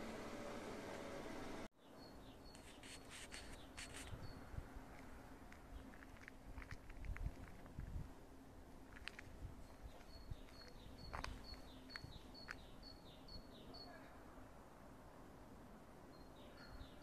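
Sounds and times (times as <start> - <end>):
faint outdoor ambience: 0.0 - 17.0.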